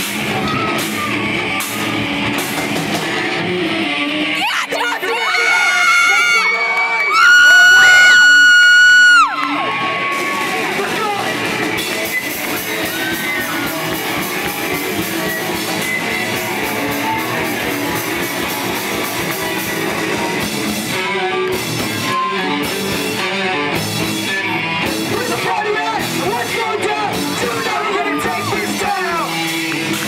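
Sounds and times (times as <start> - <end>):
drum kit: 0.0 - 4.4, 7.8 - 30.0
electric guitars: 0.0 - 30.0.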